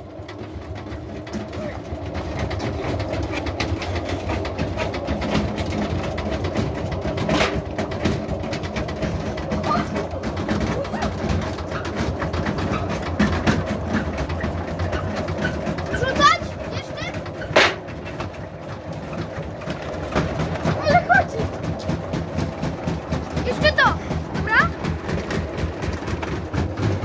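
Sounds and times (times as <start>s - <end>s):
washing machine clattering and knocking: 0.0s - 27.0s
washing machine hum: 0.0s - 27.0s.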